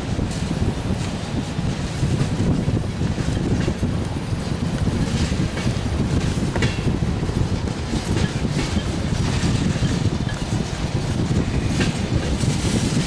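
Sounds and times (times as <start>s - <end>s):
freight train cars rumbling: 0.0s - 13.0s
wheels clicking over rail joints: 0.0s - 13.0s.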